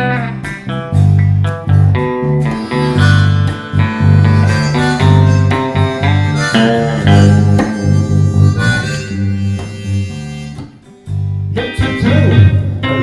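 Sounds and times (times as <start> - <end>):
blues melodic lead line: 0.0 - 13.0
guitar: 0.0 - 13.0.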